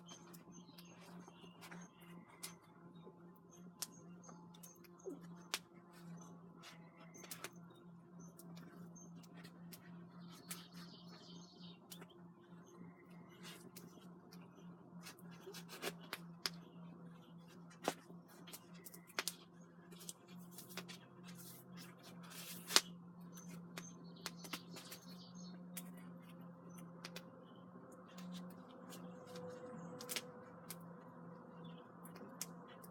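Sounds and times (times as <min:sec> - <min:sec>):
faint low hum: 0:00.0 - 0:32.9.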